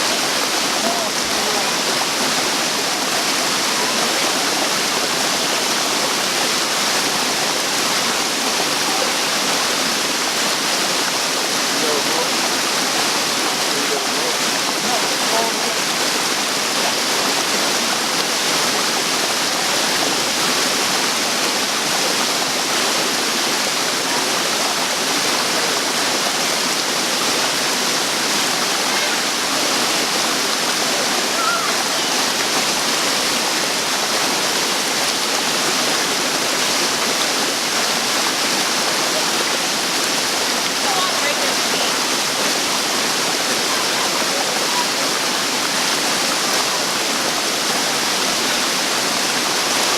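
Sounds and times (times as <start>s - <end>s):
waterfall roaring: 0.0s - 49.9s.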